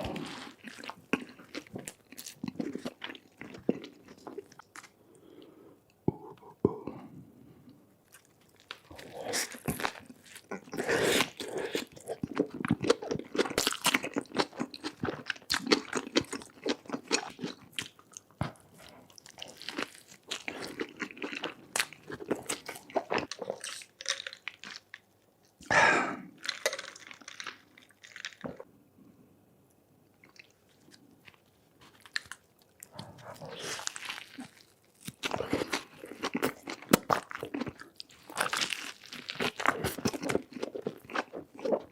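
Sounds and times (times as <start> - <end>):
chewing and crunching food: 0.0 - 5.2, 8.0 - 25.7, 26.4 - 28.7, 30.2 - 41.9.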